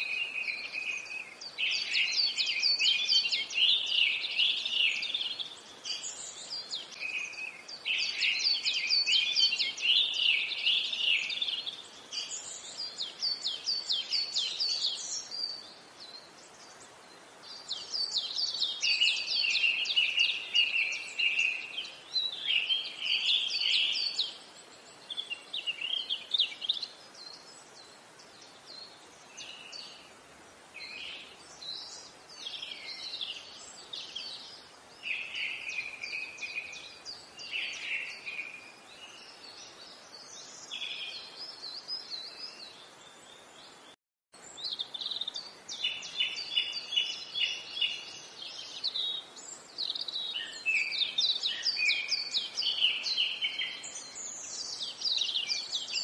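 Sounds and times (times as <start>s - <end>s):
faint steady hiss: 0.0s - 56.0s
small birds singing and chirping: 0.0s - 56.0s.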